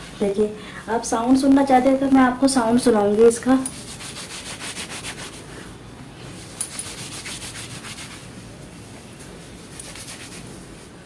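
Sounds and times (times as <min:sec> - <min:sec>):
wet cloth rubbing wet hair: 0:00.0 - 0:11.0.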